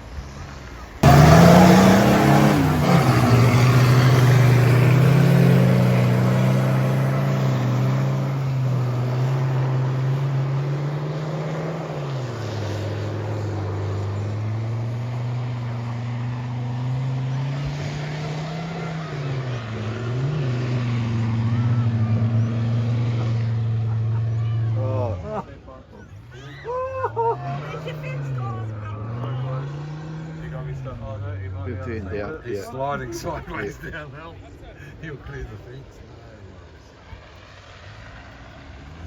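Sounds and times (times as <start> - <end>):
off-road vehicle engine revving: 1.0 - 34.0.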